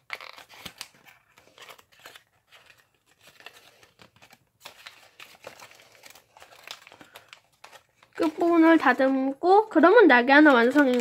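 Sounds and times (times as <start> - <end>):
paper crinkling and rustling: 0.0 - 9.3, 10.2 - 11.0.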